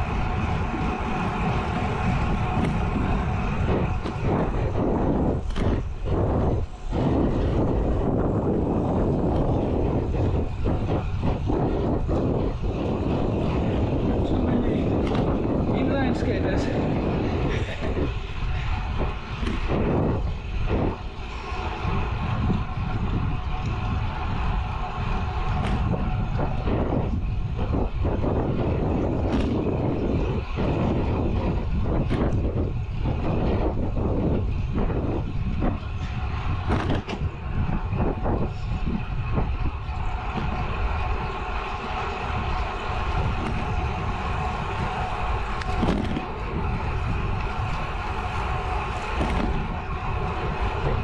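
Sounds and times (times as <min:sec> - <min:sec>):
bike tyres rolling on asphalt: 0:00.0 - 0:51.0
wind rushing over microphone: 0:00.0 - 0:51.0.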